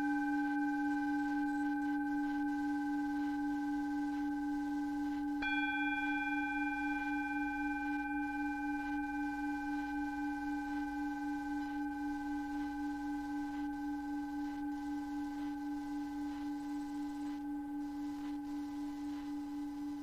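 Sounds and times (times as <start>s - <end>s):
synthesized drone of pure tones: 0.0s - 20.0s.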